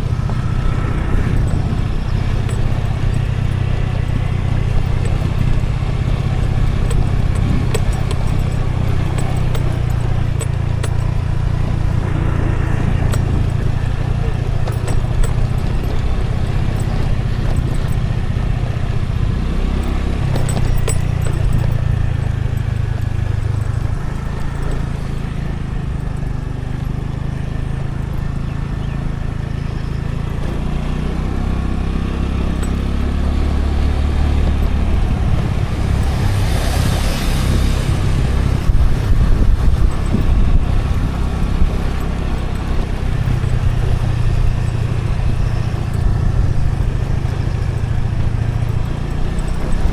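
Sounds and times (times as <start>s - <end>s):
road noise: 0.0s - 49.9s
scooter engine running: 0.0s - 49.9s.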